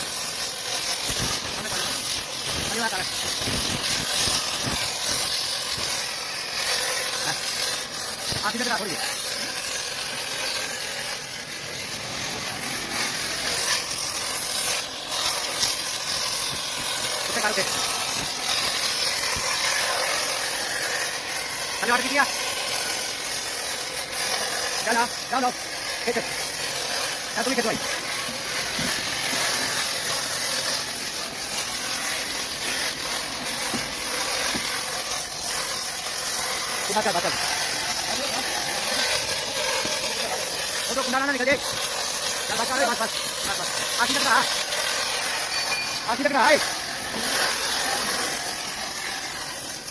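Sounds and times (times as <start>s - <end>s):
welding torch flame hissing: 0.0s - 49.9s.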